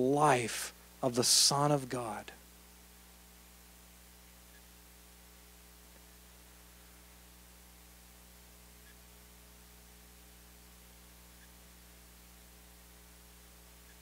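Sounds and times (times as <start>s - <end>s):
faint mains hum with hiss: 0.0s - 14.0s.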